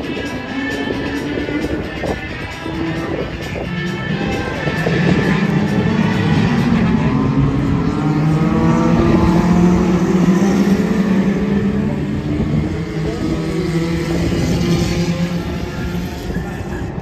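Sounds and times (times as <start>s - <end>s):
racing car engines passing: 0.0s - 17.0s.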